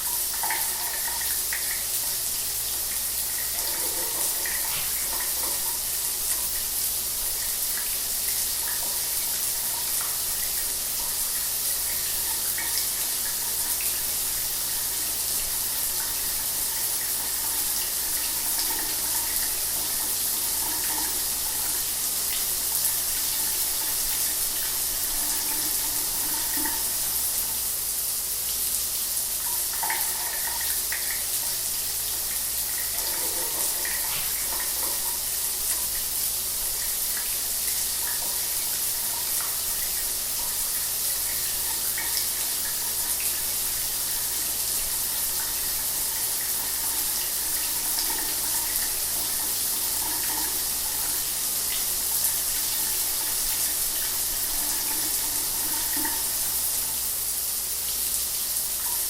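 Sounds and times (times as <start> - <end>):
shower water running: 0.0 - 59.0.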